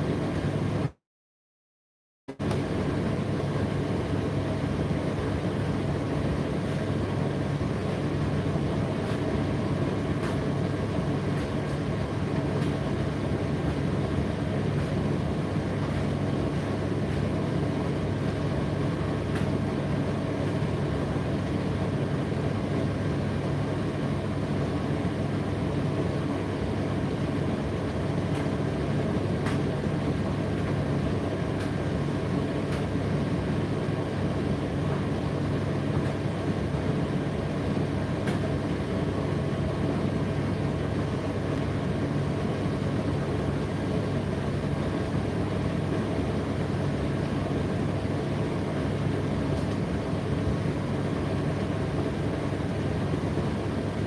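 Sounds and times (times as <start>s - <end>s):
tumble dryer humming and whirring: 0.0s - 1.0s, 2.3s - 54.0s.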